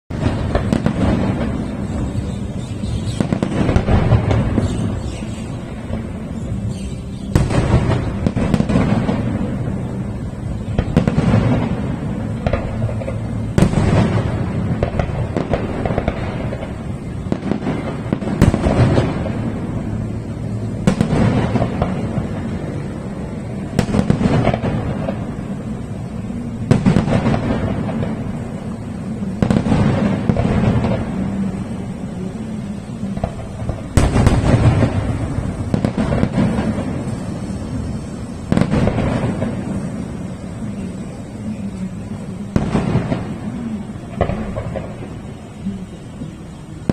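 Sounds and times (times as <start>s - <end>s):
crackling rumble: 0.0s - 46.9s
fireworks bangs: 0.1s - 46.9s.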